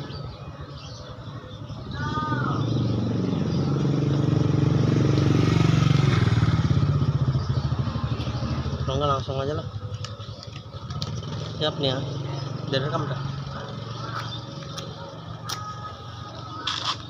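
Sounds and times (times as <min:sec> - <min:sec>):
motorcycle engine passing: 0:00.9 - 0:15.4.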